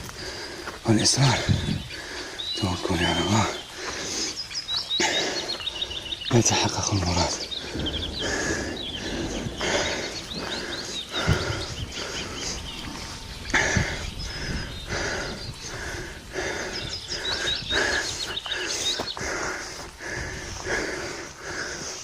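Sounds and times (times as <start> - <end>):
person panting heavily: 0.0 - 2.6, 3.3 - 6.3, 7.4 - 22.0
small birds chirping: 0.0 - 22.0.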